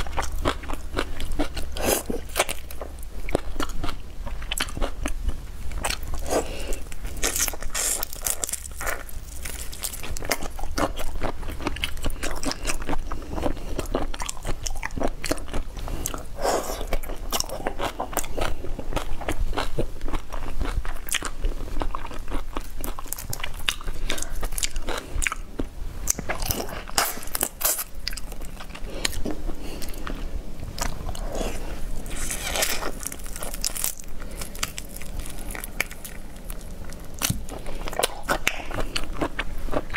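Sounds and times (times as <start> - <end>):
chewing crunchy prawns: 0.0 - 39.9.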